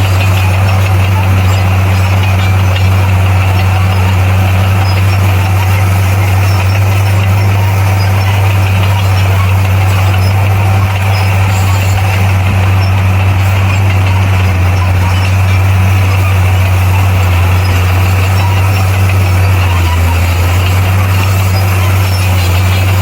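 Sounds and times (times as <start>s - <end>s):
bulldozer diesel engine drone: 0.0s - 23.0s.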